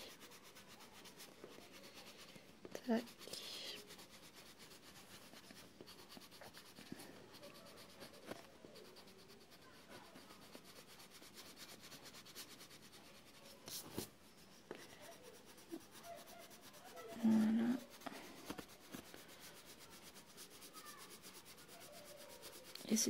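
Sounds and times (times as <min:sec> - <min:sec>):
pencil scratching on paper: 0:00.0 - 0:23.0.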